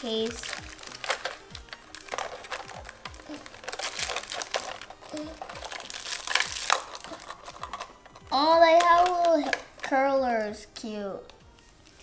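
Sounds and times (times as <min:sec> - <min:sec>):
plastic case clicking and crinkling: 0:00.1 - 0:09.9.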